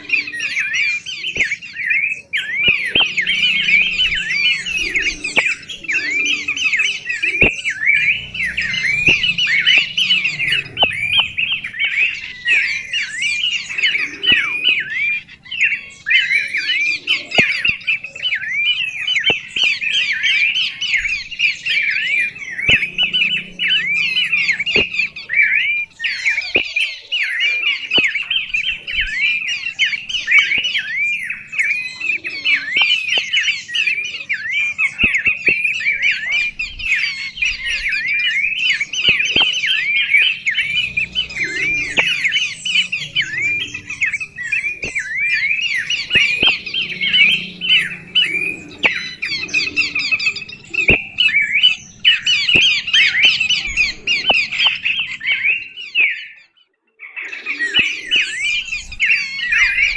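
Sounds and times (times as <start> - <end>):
bird chirping song: 0.0 - 59.9.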